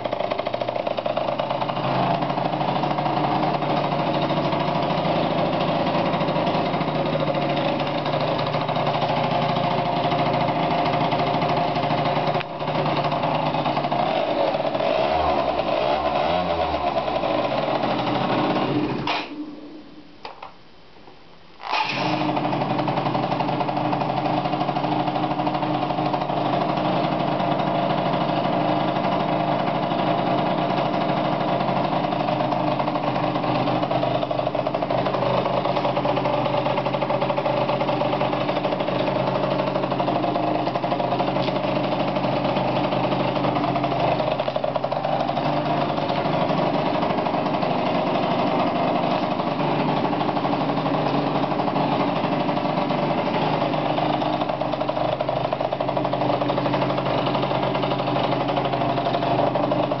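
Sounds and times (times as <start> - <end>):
scooter engine idling: 0.0 - 19.8, 21.6 - 60.0.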